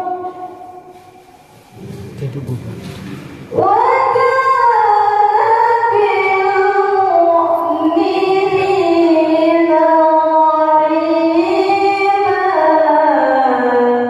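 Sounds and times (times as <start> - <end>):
woman reciting melodically: 0.0 - 1.3, 3.5 - 14.0.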